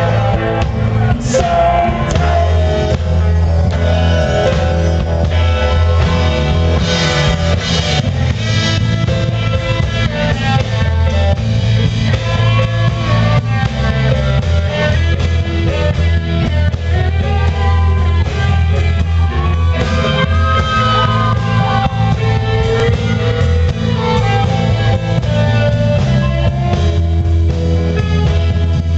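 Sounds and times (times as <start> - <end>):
rock music with guitars: 0.0 - 28.9.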